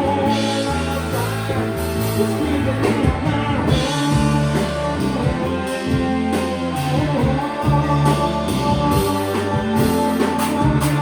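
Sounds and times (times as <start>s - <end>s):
person singing: 0.0s - 11.0s
rock band playing live: 0.0s - 11.0s.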